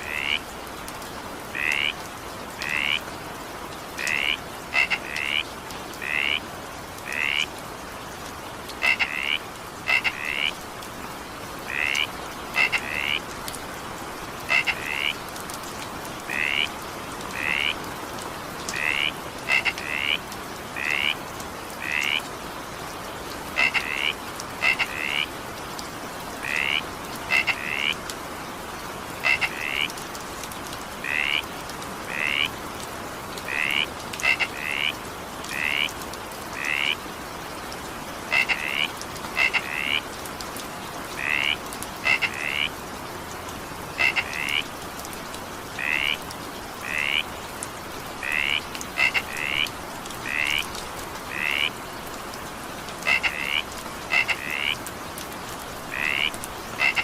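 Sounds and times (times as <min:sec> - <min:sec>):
frogs croaking: 0:00.0 - 0:03.2, 0:03.9 - 0:07.6, 0:08.6 - 0:22.4, 0:23.2 - 0:28.1, 0:29.1 - 0:32.7, 0:33.3 - 0:43.0, 0:43.8 - 0:57.0
rain falling: 0:00.0 - 0:57.0.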